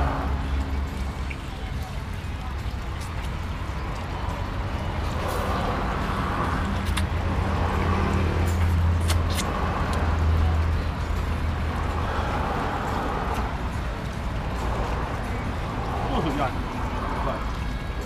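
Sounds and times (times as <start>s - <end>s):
vehicle engine passing: 0.0s - 1.6s, 3.5s - 17.9s.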